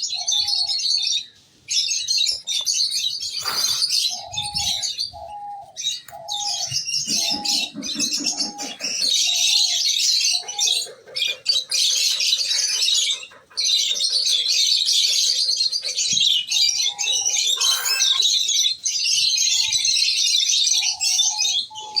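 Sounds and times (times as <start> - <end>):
lovebirds chattering and screeching: 0.0 - 22.0.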